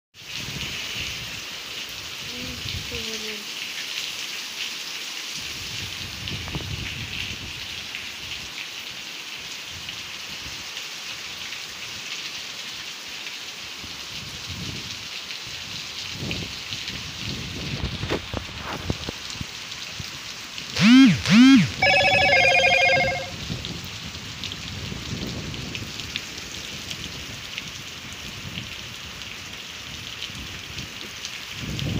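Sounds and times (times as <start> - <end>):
rain on wet concrete: 0.2 - 20.8, 23.2 - 31.9.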